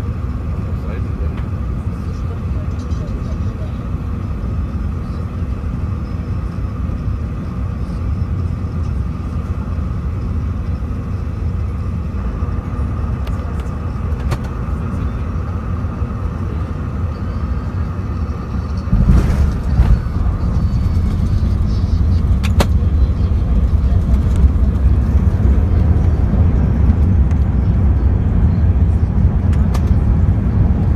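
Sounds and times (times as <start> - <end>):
aircraft cabin low rumble: 0.0 - 30.9.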